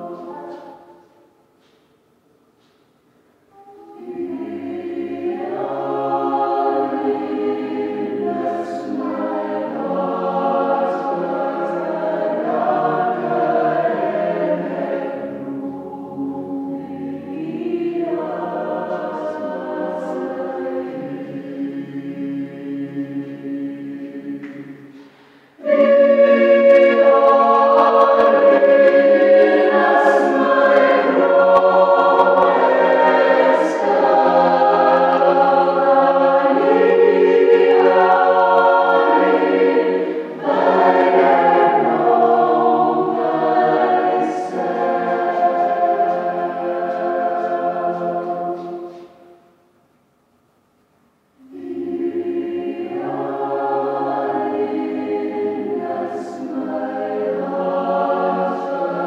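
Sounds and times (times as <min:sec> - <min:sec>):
choir singing: 0:00.0 - 0:01.3, 0:03.5 - 0:49.5, 0:51.4 - 0:59.0.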